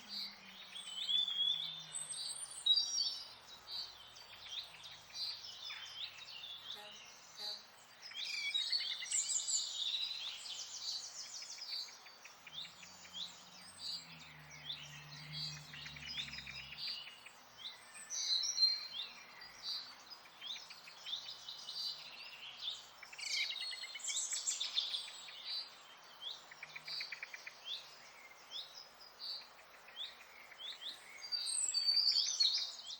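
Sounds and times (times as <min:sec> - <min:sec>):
outdoor ambience hiss: 0:00.0 - 0:32.9
small birds chirping: 0:00.0 - 0:32.9.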